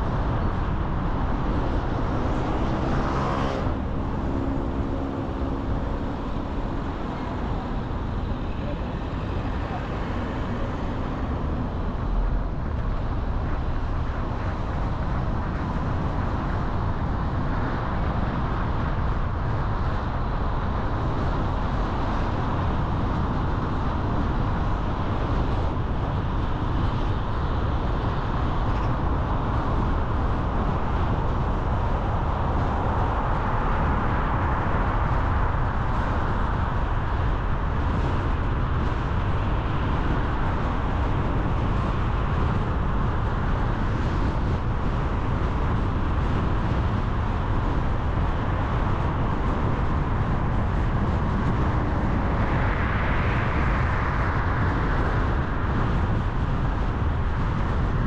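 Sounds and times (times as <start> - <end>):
car driving road noise: 0.0 - 58.0.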